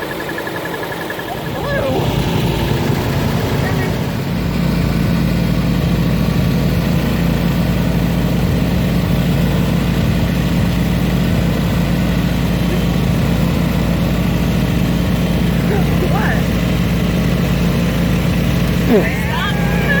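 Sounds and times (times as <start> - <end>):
lawnmower engine running: 0.0 - 20.0.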